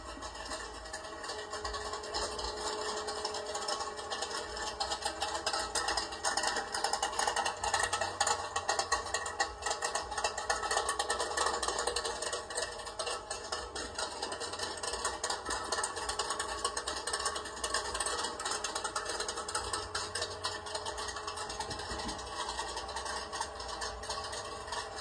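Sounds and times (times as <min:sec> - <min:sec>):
rough rattly engine running: 0:00.0 - 0:25.0.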